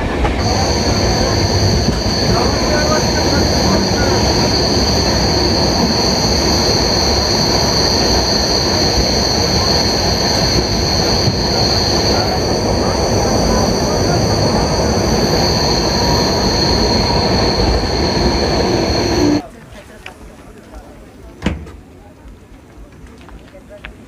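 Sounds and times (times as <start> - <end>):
wheel flanges squealing on rail: 0.0 - 19.4
train wheels rumbling on track: 0.0 - 19.5.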